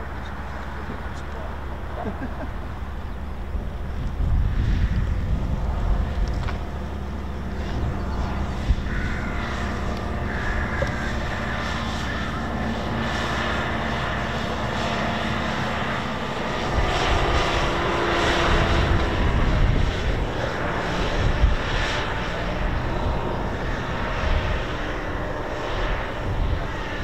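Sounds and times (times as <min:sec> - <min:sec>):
aircraft engine drone: 0:00.0 - 0:27.0
rough rush of engine noise: 0:00.0 - 0:27.0.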